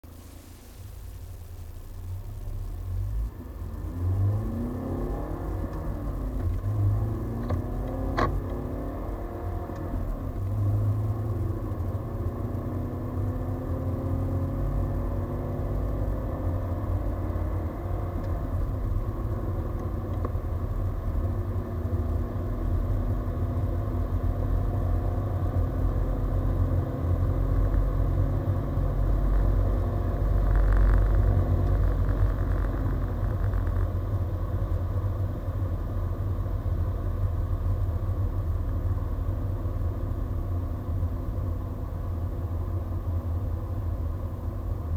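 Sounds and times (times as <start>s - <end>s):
low road rumble: 0.0s - 44.9s
car engine accelerating: 1.5s - 44.9s.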